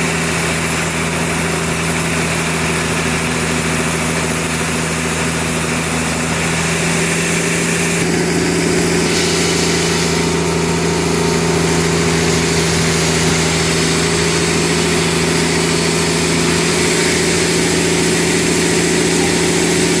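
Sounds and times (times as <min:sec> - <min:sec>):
sawmill machinery humming: 0:00.0 - 0:20.0.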